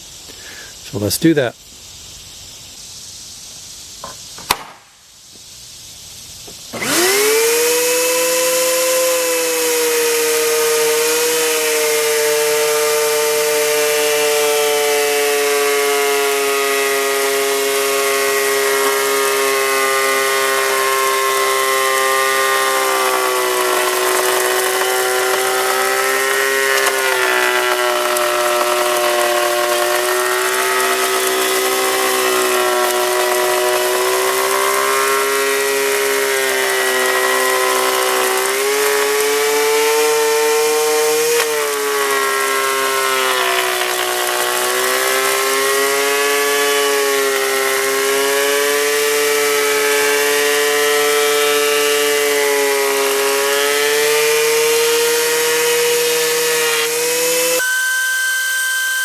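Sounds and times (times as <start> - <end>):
thickness planer running: 6.8 - 49.2, 50.1 - 59.0.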